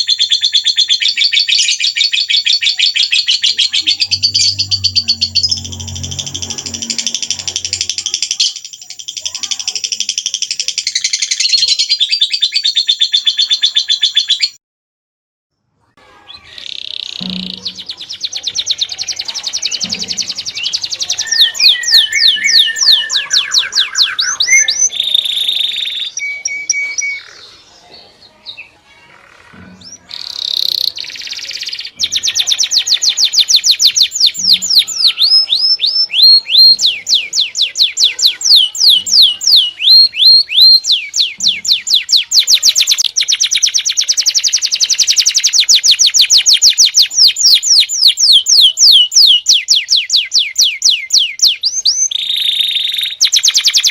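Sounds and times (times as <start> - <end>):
songbirds trilling: 0.0 - 14.6, 16.1 - 53.9.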